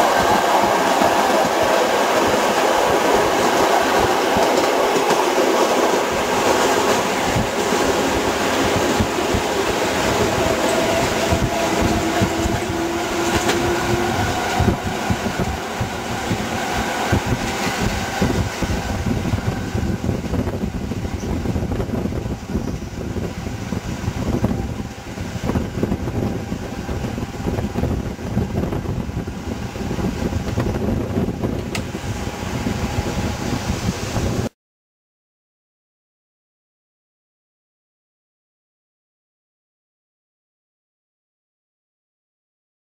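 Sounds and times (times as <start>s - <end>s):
train wheel and rail rumble: 0.0s - 34.5s
wind: 0.0s - 34.6s.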